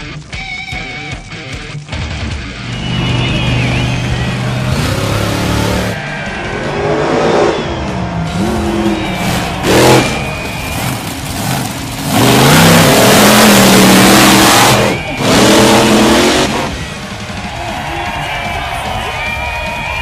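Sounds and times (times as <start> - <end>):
monster truck engines revving: 2.3 - 20.0.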